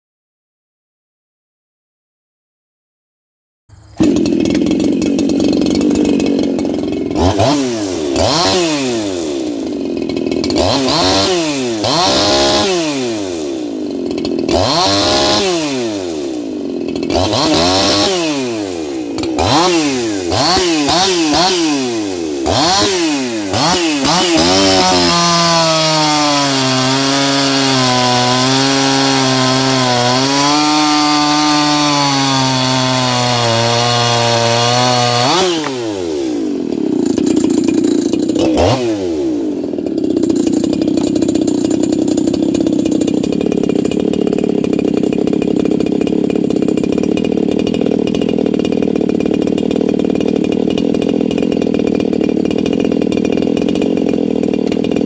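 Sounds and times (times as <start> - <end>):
chainsaw revving and cutting log: 3.8 - 55.0.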